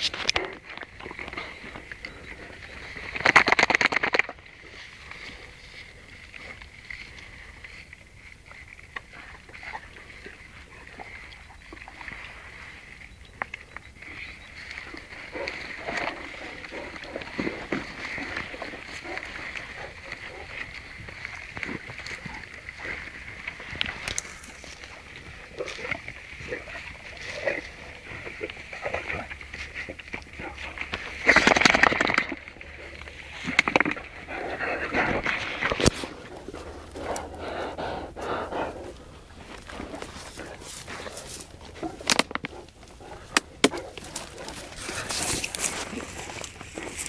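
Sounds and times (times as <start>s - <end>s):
tall grass rustling and crackling: 0.0s - 47.0s.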